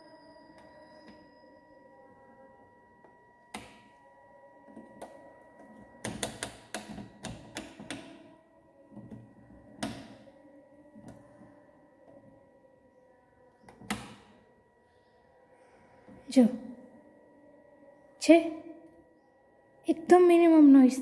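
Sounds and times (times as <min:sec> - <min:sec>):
faint steady high tone: 0:00.0 - 0:21.0.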